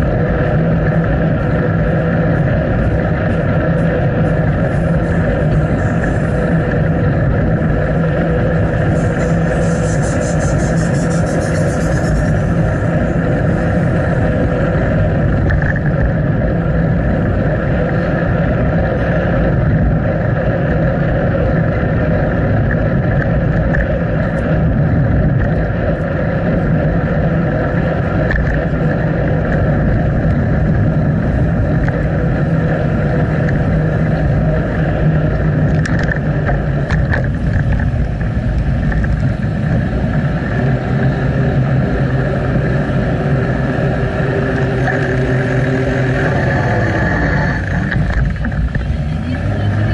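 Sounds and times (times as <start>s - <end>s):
wind and riding noise: 0.0s - 49.9s.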